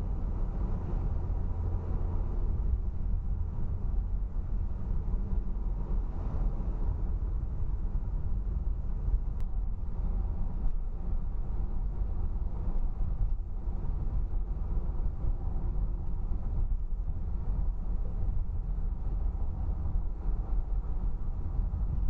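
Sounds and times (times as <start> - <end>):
car cabin road and engine noise: 0.0 - 22.0.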